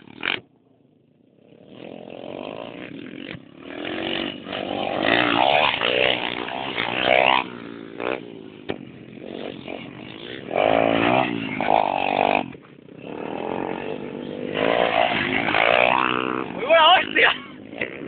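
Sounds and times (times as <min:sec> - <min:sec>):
motorbike engines revving: 0:00.0 - 0:18.0.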